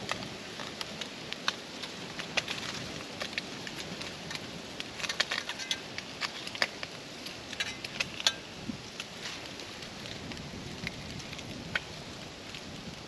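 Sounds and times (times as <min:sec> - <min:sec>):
hot oil sizzling in skillet: 0:00.0 - 0:13.0
oil popping and crackling: 0:00.0 - 0:13.0.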